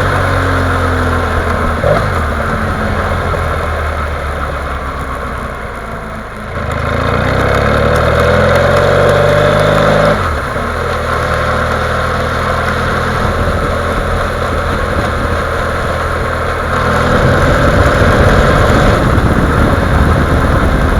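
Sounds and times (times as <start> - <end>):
engine knocking noise: 0.0 - 20.9
motorcycle engine revving: 0.0 - 20.9.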